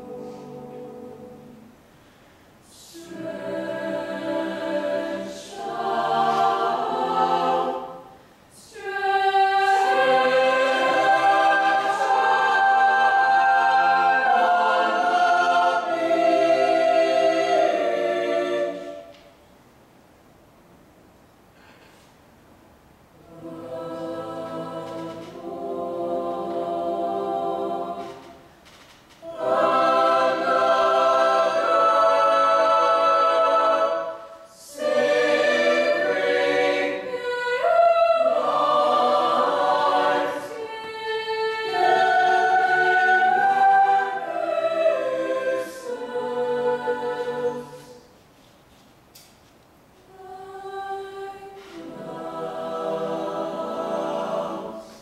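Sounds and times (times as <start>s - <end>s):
choir singing sustained chords: 0.0s - 19.4s, 23.2s - 28.6s, 29.2s - 48.2s, 50.1s - 55.0s.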